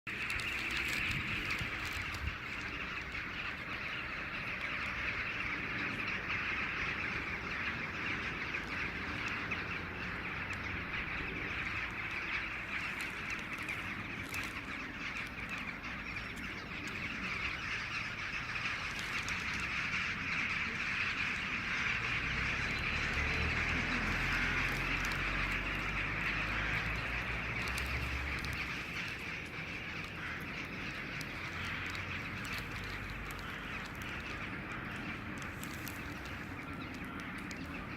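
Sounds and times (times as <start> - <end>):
flock of birds chattering: 0.1 - 37.9.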